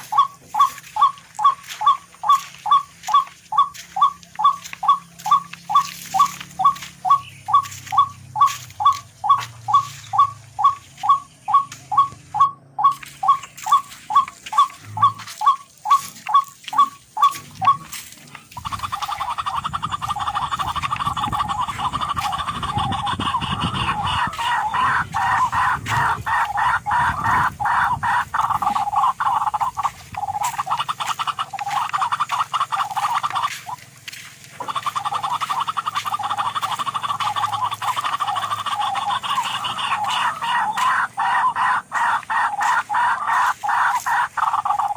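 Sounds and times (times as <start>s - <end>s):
bird calling sharp notes: 0.0s - 44.9s
dense rattling bird chorus: 0.0s - 44.9s.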